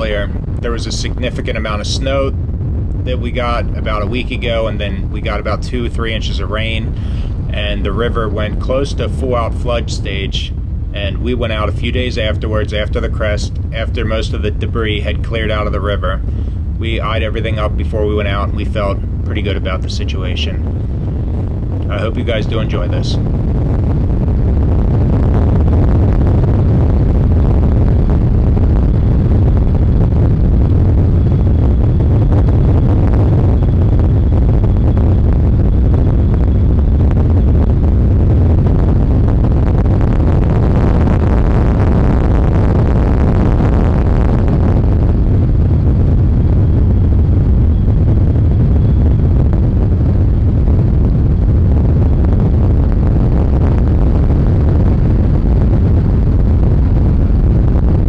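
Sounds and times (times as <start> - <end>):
boat engine and water rumble: 0.0 - 58.0.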